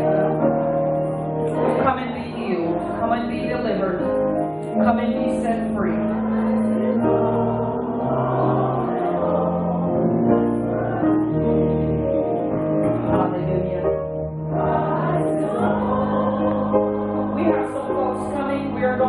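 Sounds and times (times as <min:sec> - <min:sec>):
choir singing a hymn: 0:00.0 - 0:19.0.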